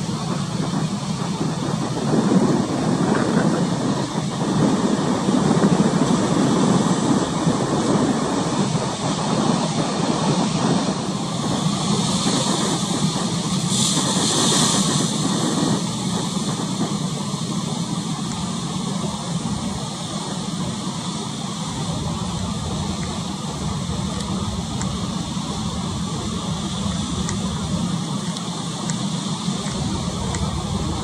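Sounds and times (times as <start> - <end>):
choppy water rumble: 0.0 - 31.0
hissing wash of waves: 0.0 - 31.0
wind: 0.0 - 31.0.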